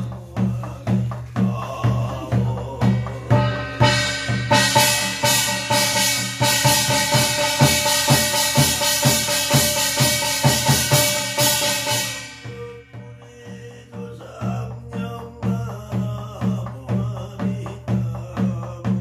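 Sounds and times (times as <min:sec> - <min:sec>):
gong and drum beat: 0:00.0 - 0:19.0.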